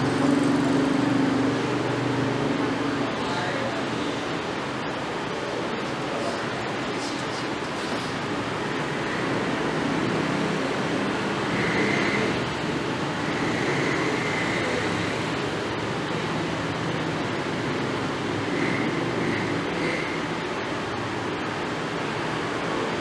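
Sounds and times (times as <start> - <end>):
classroom background noise: 0.0 - 23.0.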